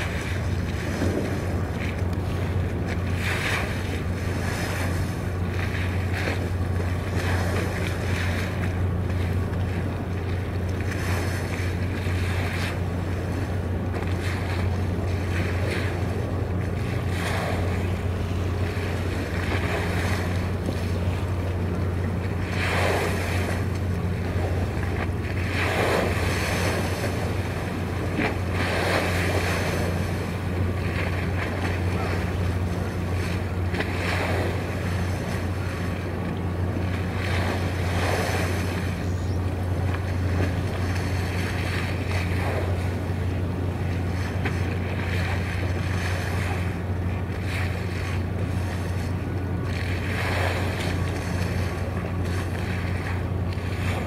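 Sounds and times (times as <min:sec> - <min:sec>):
sea wash: 0:00.0 - 0:54.0
ship engine hum: 0:00.0 - 0:54.0.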